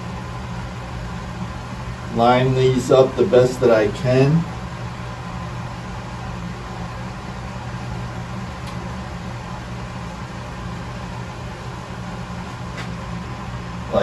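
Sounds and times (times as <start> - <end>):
workshop machinery hum: 0.0 - 14.0.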